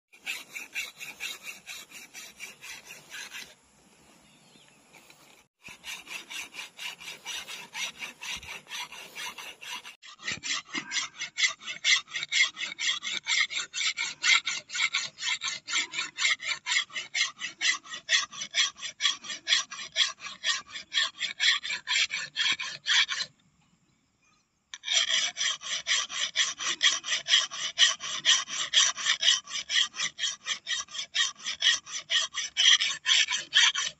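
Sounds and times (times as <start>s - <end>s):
file rasping on steel blade: 0.1s - 3.6s, 5.0s - 23.3s, 24.8s - 33.9s.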